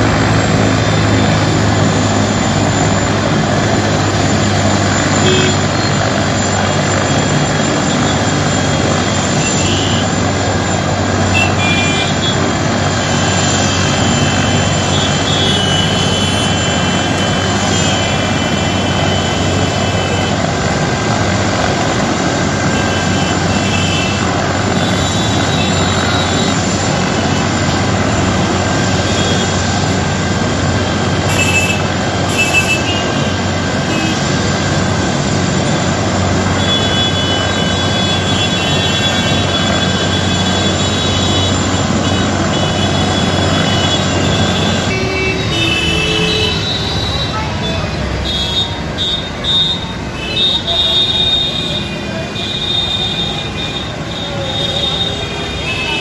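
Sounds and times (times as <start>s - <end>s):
high whine: 0.0s - 51.6s
helicopter rotor and engine: 0.0s - 56.0s.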